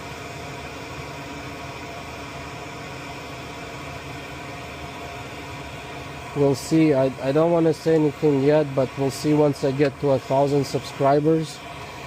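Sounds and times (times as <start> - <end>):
faint high whine: 0.0 - 12.0
small fan humming: 0.0 - 12.0.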